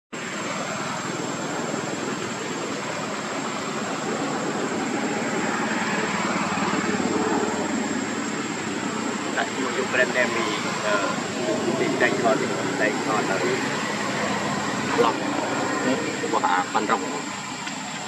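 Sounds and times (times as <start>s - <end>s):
engine droning: 0.1s - 18.0s
thin high whine: 0.2s - 18.0s.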